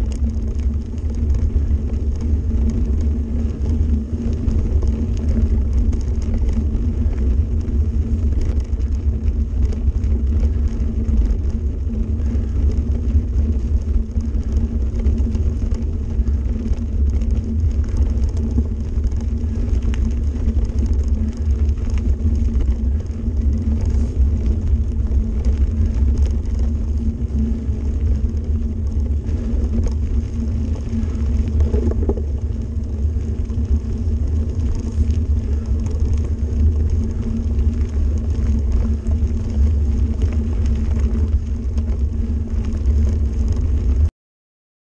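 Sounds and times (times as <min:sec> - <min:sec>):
bike shaking: 0:00.0 - 0:44.1
bike tyres rumbling on gravel: 0:00.0 - 0:44.1.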